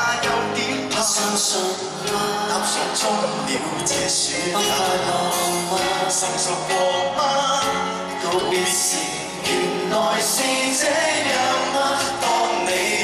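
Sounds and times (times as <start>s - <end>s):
live pop band: 0.0s - 13.0s
man singing: 0.0s - 13.0s.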